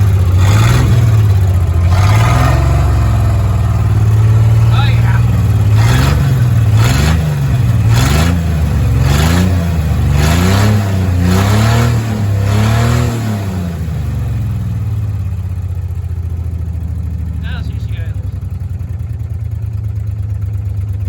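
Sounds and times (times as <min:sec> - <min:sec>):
truck engine revving and idling: 0:00.0 - 0:21.0.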